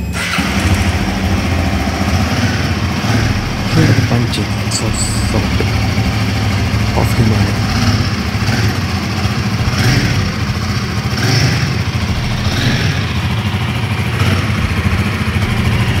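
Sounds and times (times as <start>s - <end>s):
motorcycle engine idling: 0.0s - 16.0s
motorcycle throttle revs: 0.2s - 16.0s.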